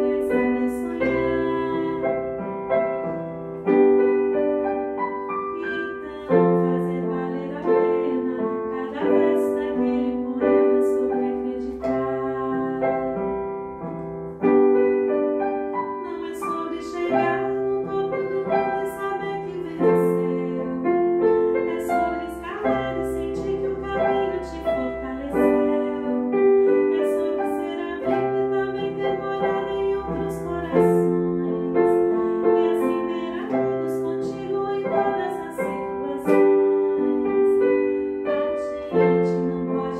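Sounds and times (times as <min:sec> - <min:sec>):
woman singing: 0:00.0 - 0:13.6, 0:14.8 - 0:39.9
piano chords: 0:00.0 - 0:39.9.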